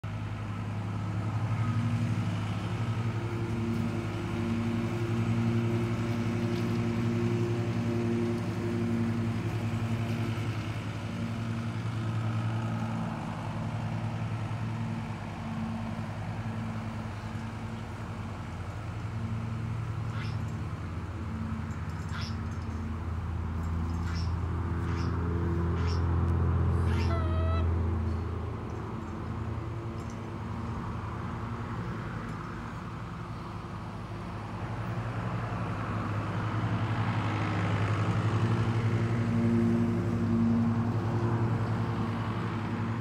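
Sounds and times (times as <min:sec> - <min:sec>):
motor engine running steadily: 0:00.0 - 0:43.0.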